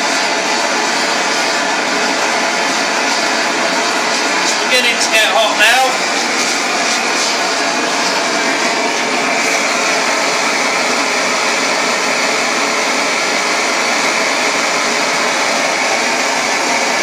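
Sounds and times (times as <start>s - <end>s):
gas torch hissing: 0.0s - 17.0s.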